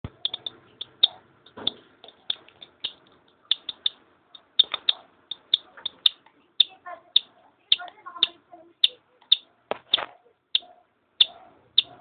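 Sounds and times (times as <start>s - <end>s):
chick peeping: 0.0s - 12.0s.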